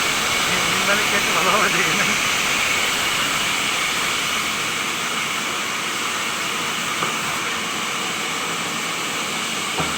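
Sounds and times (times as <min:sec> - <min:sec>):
sawmill machinery running: 0:00.0 - 0:09.9.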